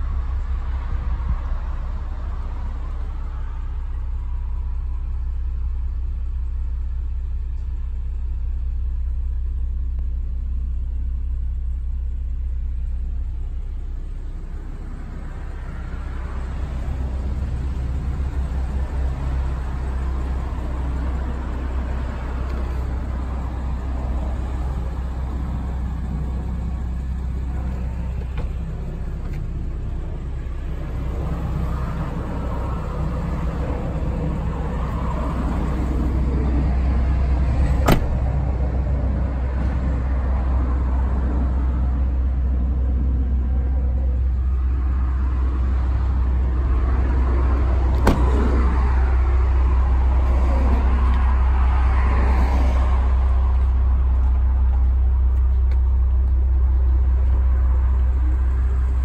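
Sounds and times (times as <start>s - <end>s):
car low rumble: 0.0s - 59.0s.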